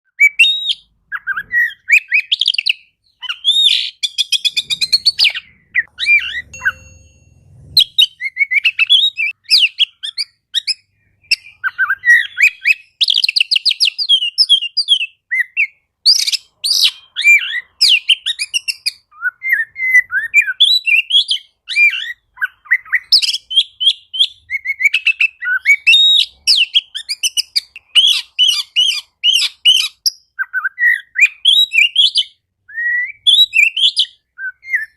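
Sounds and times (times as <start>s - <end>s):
bird singing whistles and trills: 0.1s - 7.2s, 7.8s - 34.9s.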